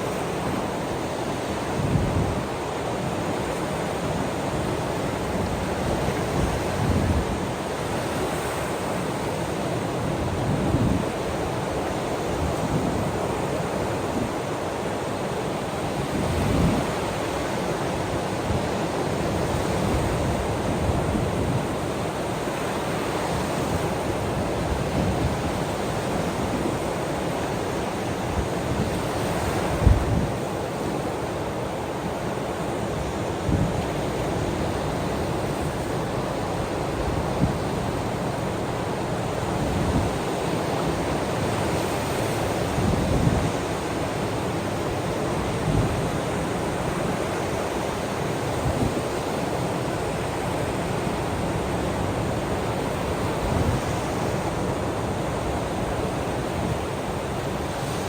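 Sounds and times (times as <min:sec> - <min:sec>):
ocean surf washing: 0:00.0 - 0:58.0.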